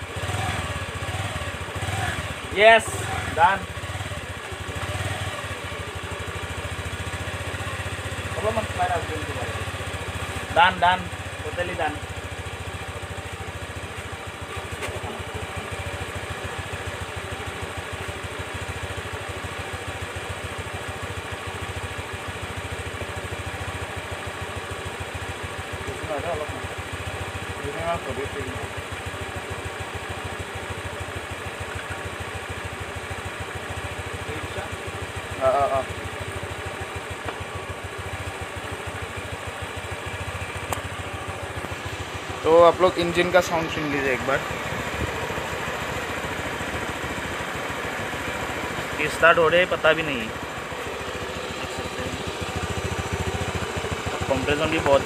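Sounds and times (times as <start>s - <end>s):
scooter engine idling: 0.0s - 55.0s.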